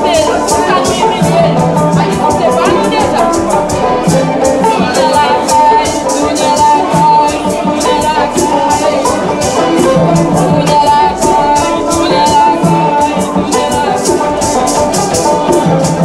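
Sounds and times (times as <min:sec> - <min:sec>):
drum: 0:00.0 - 0:16.0
maracas shaken: 0:00.0 - 0:16.0
strummed banjo: 0:00.0 - 0:16.0
woman singing: 0:00.0 - 0:16.0.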